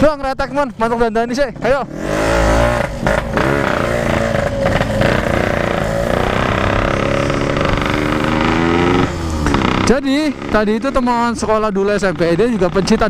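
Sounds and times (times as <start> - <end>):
two-stroke motorcycle engine revving: 1.3 - 13.0.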